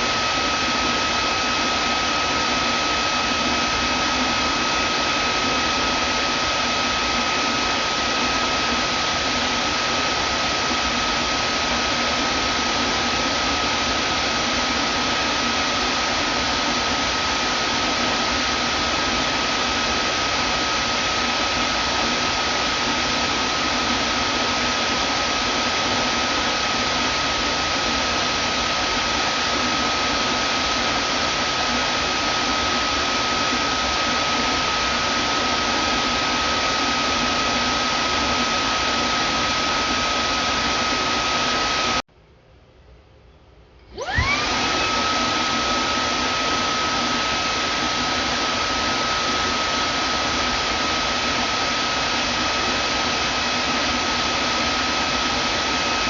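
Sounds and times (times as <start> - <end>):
vacuum cleaner motor running: 0.0 - 42.1, 43.9 - 56.0.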